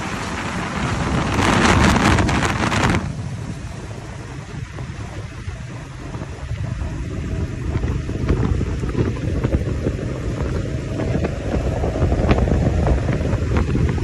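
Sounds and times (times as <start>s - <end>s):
diesel machinery rumbling: 0.0s - 14.0s.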